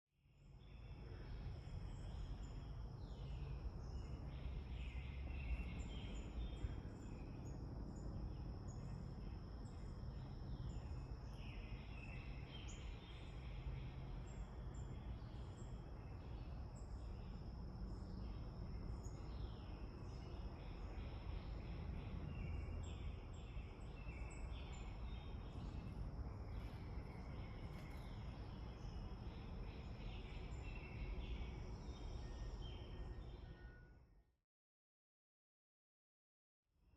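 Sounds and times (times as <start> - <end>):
low background rumble: 0.6 - 32.1
high insect drone: 0.6 - 33.6
birds chirping: 0.7 - 33.7.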